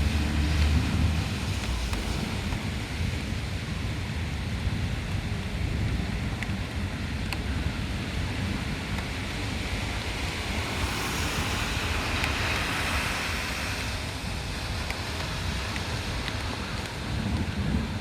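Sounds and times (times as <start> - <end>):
heavy rain hiss: 0.0 - 18.0
wind buffeting microphone: 0.0 - 18.0.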